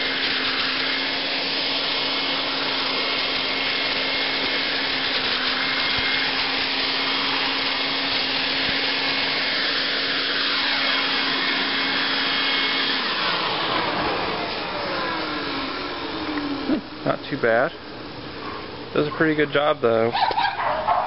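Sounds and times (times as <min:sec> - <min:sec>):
impeller spinning down: 0:00.0 - 0:17.7
leaf vacuum whining: 0:00.0 - 0:21.0.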